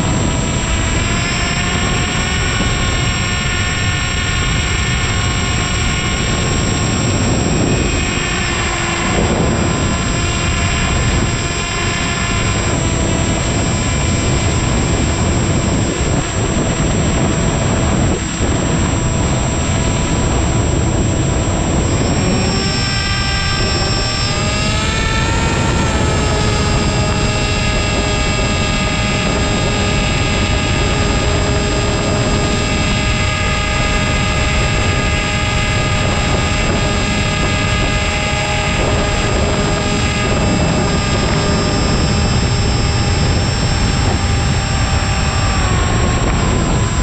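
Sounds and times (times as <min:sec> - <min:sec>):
electric motor and propeller whining: 0:00.0 - 0:47.0
rush of air noise: 0:00.0 - 0:47.0.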